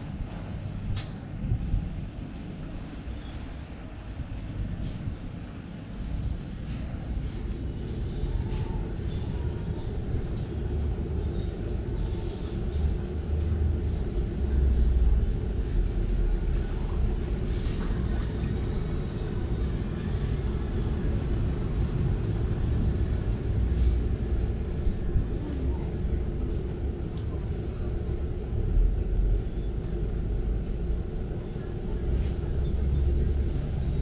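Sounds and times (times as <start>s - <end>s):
city traffic rumble: 0.0s - 34.0s
faint street noise: 0.0s - 34.0s.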